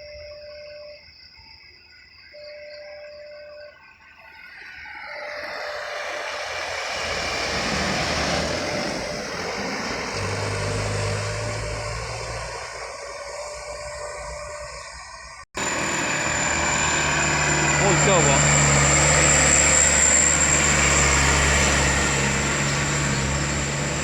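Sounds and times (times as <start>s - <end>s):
truck engine and tyre noise: 3.7s - 24.0s
low engine drone: 4.6s - 24.0s.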